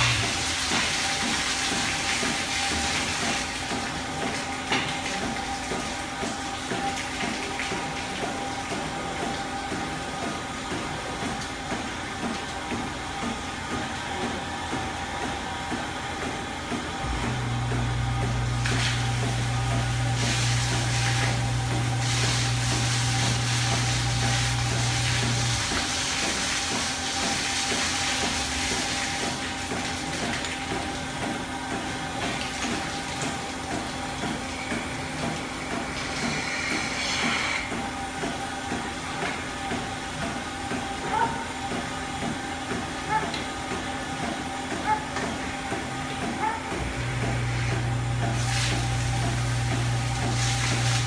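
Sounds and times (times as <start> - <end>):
milking machine hum: 0.0 - 51.0.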